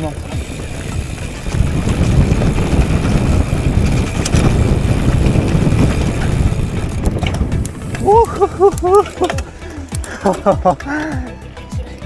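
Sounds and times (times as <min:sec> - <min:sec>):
wind buffeting microphone: 0:00.0 - 0:09.8
sharp rattles: 0:00.0 - 0:11.0
mountain bike rumble off-road: 0:00.0 - 0:12.0.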